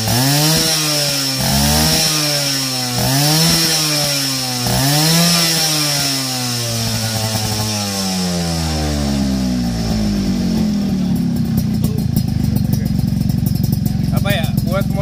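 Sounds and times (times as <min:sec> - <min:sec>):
two-stroke engine revving and idling: 0:00.0 - 0:15.0.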